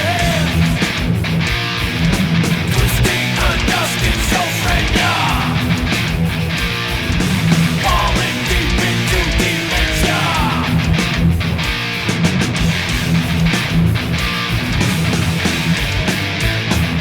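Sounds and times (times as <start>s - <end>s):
distorted electric guitar riff: 0.0s - 17.0s
drums: 0.0s - 17.0s.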